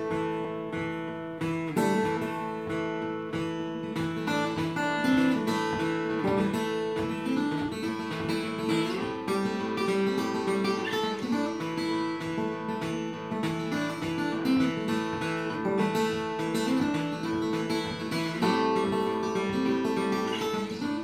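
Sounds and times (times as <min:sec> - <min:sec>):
fingerstyle acoustic guitar: 0:00.0 - 0:21.0.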